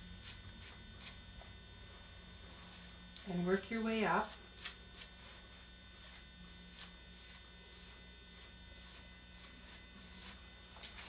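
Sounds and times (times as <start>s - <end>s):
low electrical hum: 0.0s - 11.0s
soft brushing strokes on hair: 2.0s - 11.0s.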